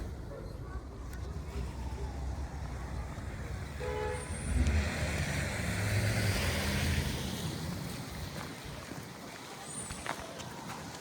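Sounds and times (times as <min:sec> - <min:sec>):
vehicle passing on street: 0:00.0 - 0:11.0.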